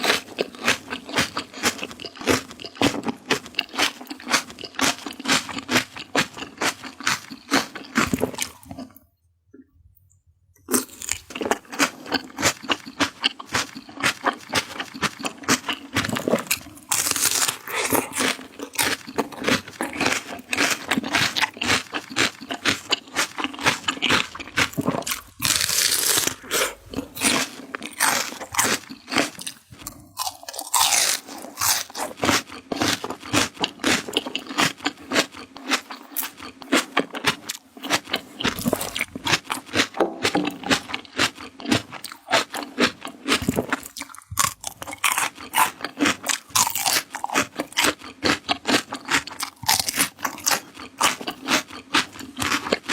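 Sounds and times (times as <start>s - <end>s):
crunching raw vegetables: 0.0s - 9.0s, 10.7s - 52.9s.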